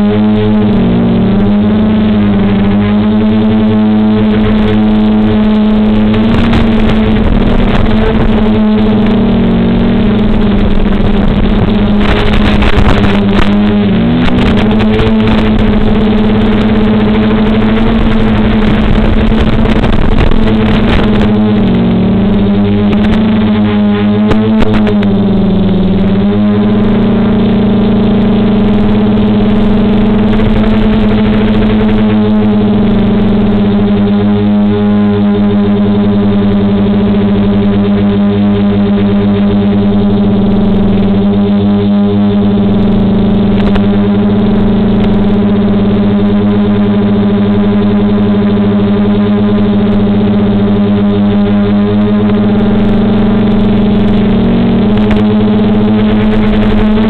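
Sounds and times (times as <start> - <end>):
drone motors humming: 0.0 - 57.0.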